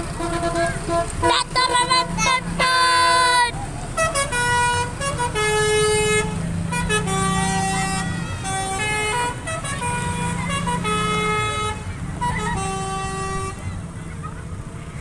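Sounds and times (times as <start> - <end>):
multi-tone musical air horn: 0.0 - 13.7.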